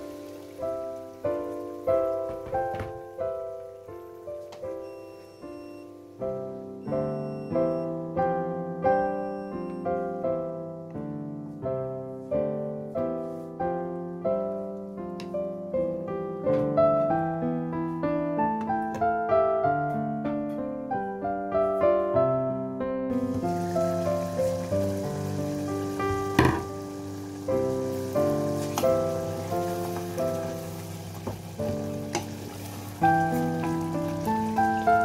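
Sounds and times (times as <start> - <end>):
gentle piano music: 0.0 - 35.0.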